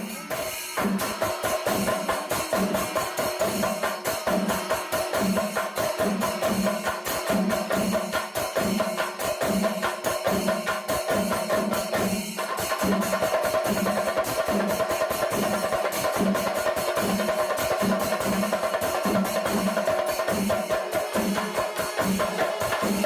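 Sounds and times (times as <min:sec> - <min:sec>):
music with steady drum beat: 0:00.0 - 0:23.0.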